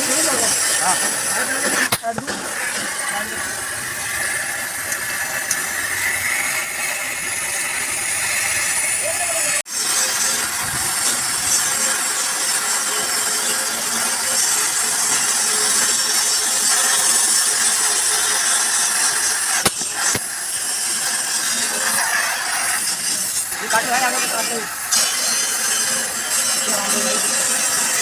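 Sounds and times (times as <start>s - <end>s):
power tool grinding sheet metal: 0.0s - 28.0s.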